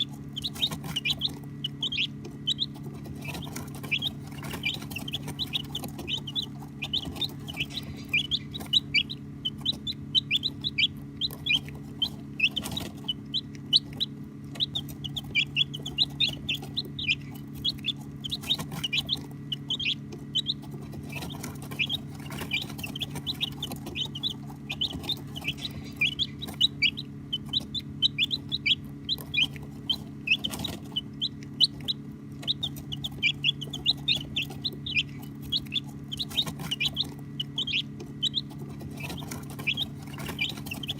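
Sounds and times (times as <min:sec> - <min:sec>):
baby chicks peeping: 0:00.0 - 0:40.9
low hum: 0:00.0 - 0:40.9.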